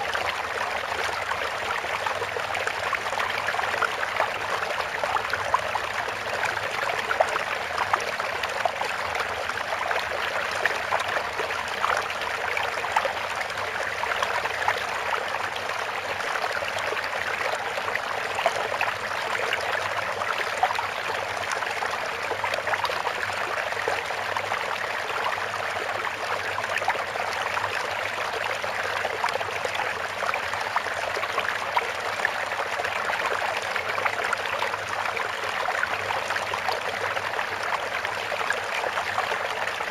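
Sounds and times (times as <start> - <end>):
trickling stream: 0.0 - 39.9.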